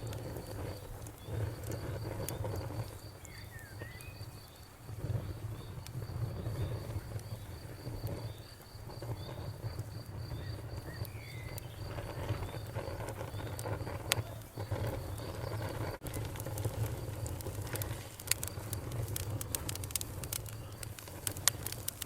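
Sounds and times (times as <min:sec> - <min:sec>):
bonfire burning with crackles: 0:00.0 - 0:22.0
crickets chirping: 0:00.0 - 0:22.0
fire popping: 0:00.0 - 0:22.0.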